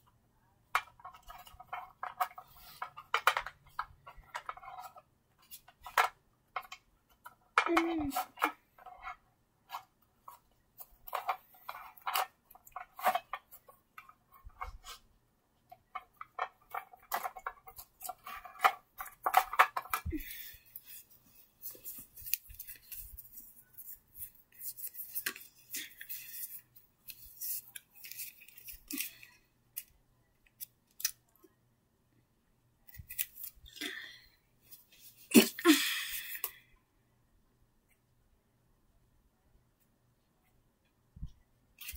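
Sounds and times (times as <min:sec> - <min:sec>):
rustling and scraping handling: 0:00.0 - 0:31.3, 0:32.8 - 0:35.6, 0:41.2 - 0:41.9.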